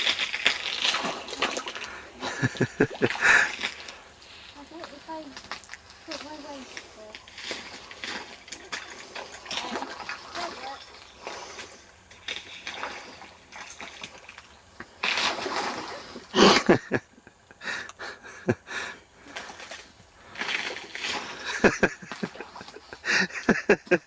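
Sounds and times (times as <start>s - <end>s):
water splashing: 0.0s - 17.0s, 18.3s - 24.0s.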